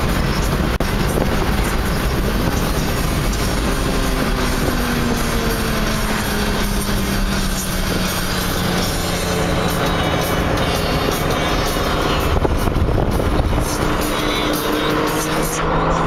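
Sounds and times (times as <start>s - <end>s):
car engine drone: 0.0s - 16.0s
road and wind noise: 0.0s - 16.0s.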